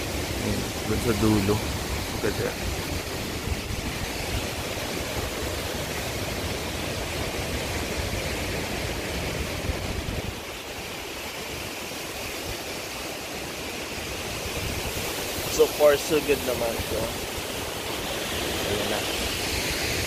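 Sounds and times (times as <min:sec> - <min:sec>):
wind buffeting microphone: 0:00.0 - 0:10.9, 0:14.0 - 0:20.0.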